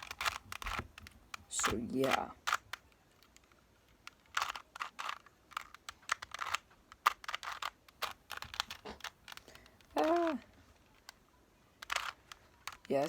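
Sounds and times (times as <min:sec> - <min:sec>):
puzzle cube clicking as twisted: 0:00.0 - 0:13.0.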